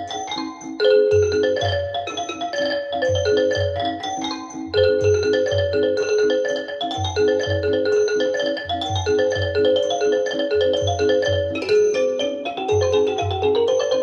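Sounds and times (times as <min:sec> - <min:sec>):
marimba-like mallet notes: 0:00.0 - 0:14.0.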